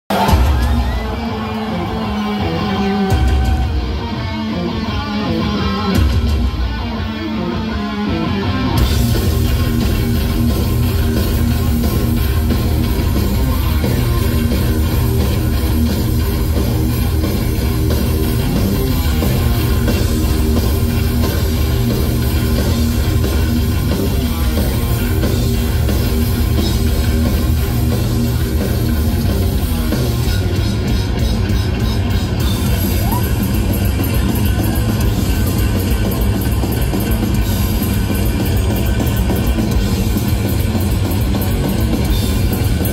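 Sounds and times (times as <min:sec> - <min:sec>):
live heavy metal band: 0:00.1 - 0:42.9.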